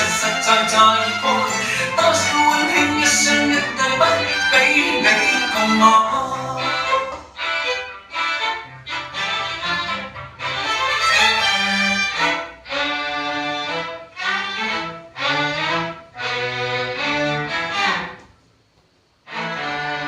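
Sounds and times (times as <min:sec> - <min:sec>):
slow bowed violin-like melody: 0:00.0 - 0:18.2, 0:19.2 - 0:20.0.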